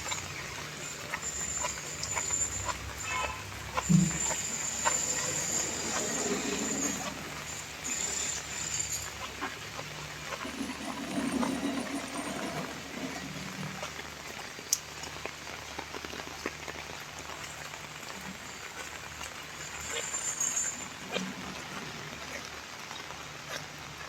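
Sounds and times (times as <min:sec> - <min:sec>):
drips and patters: 0:00.0 - 0:24.0
steady rain falling: 0:00.0 - 0:24.0.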